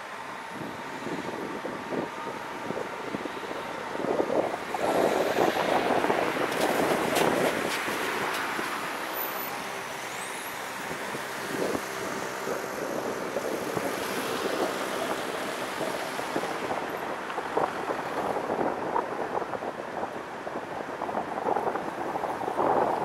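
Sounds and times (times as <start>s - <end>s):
road and tyre noise: 0.0s - 23.0s
wind buffeting microphone: 0.2s - 23.0s.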